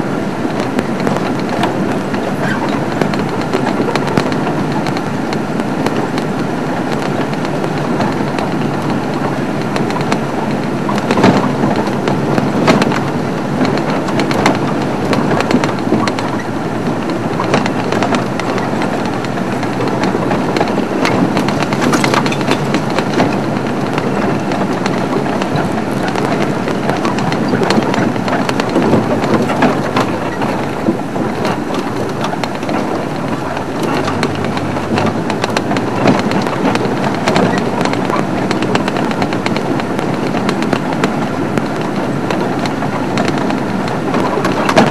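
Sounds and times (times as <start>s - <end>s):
vehicle engine and road noise: 0.0s - 44.9s
rattles and knocks: 0.4s - 44.9s.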